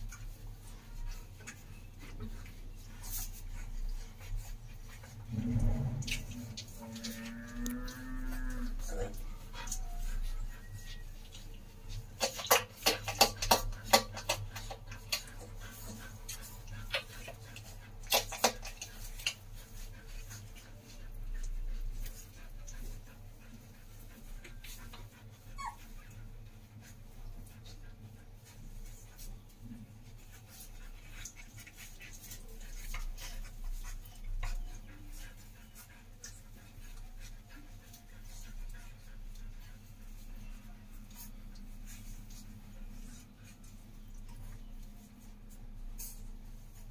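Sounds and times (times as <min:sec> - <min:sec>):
dog panting: 0:00.0 - 0:06.8, 0:08.4 - 0:46.9
puppies nursing clicks and smacks: 0:00.0 - 0:46.9.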